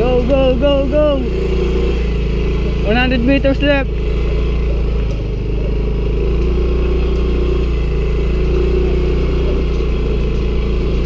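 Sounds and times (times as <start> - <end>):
motor scooter engine running: 0.0 - 11.0.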